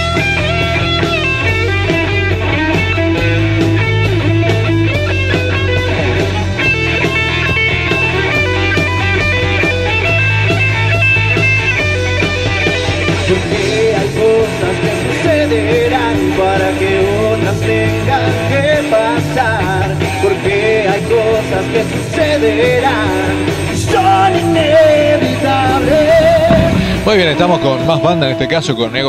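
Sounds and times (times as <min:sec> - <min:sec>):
rock band playing: 0:00.0 - 0:28.9.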